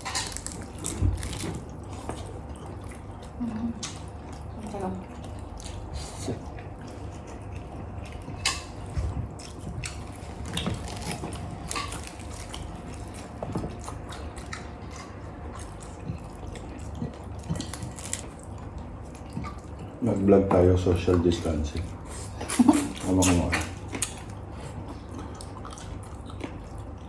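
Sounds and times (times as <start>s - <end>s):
people chewing food: 0.0s - 27.0s.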